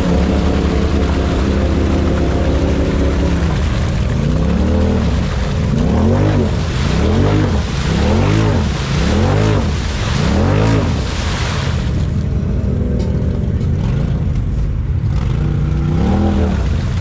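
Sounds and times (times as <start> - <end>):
engine revving: 0.0 - 14.4, 15.0 - 17.0
tires churning through mud: 0.0 - 17.0.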